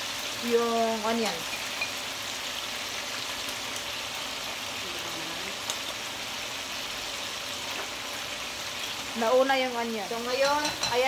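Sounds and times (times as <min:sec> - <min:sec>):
oil sizzling in a skillet: 0:00.0 - 0:11.0.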